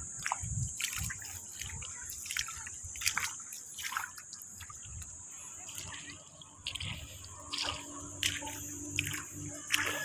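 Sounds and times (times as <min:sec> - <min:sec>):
mud squelching and dripping: 0:00.0 - 0:10.0.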